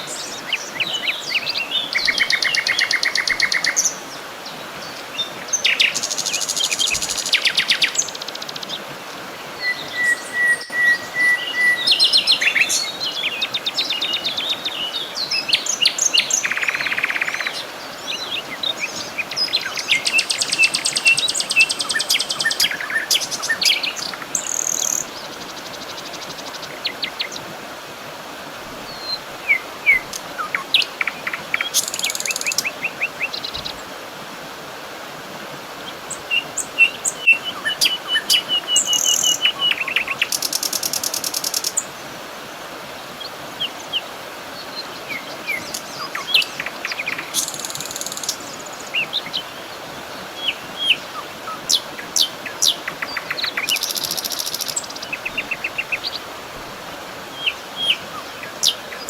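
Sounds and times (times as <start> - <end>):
songbirds chirping: 0.0 - 35.0, 35.6 - 59.0
background hiss: 0.0 - 59.0.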